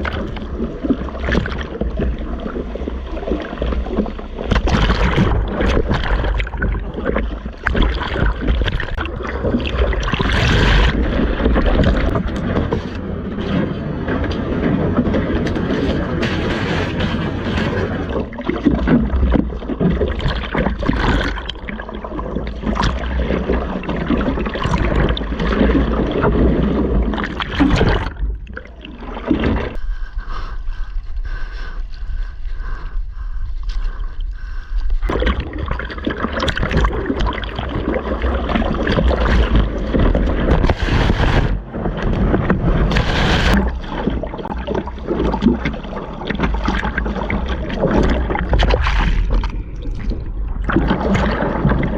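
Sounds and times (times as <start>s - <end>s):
ocean surf splashing and rushing: 0.0s - 29.8s, 35.1s - 49.7s.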